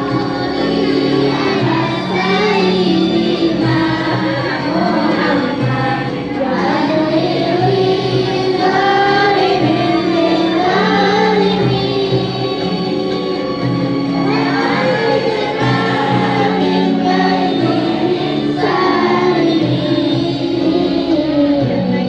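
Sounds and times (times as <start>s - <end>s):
children singing in unison: 0.0s - 22.0s
low musical backing: 0.0s - 22.0s.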